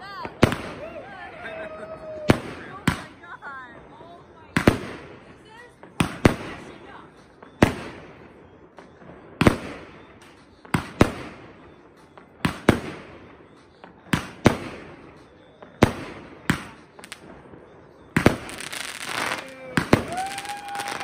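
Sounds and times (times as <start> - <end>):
fireworks bangs: 0.0 - 21.0
fireworks crackles: 0.0 - 21.0.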